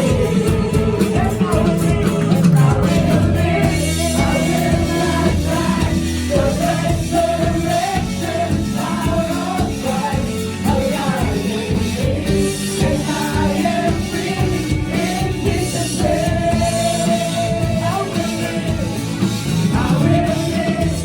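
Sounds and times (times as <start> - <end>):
worship band with singers: 0.0 - 21.0.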